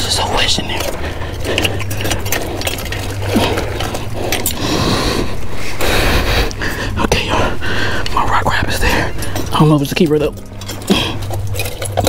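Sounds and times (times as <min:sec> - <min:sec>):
hands rummaging in wet container: 0:00.0 - 0:05.7, 0:08.0 - 0:12.0
steady low rumble: 0:00.0 - 0:12.0.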